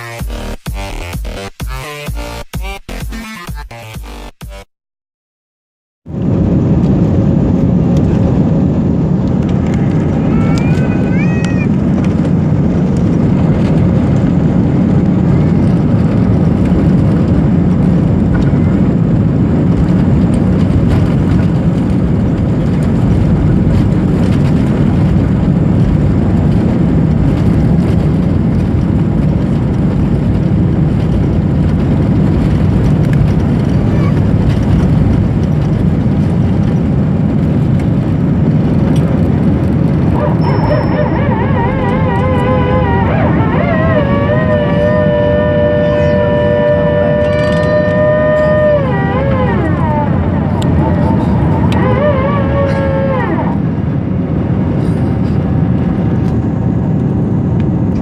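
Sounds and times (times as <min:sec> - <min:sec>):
jet engine roar: 0:06.1 - 0:58.0.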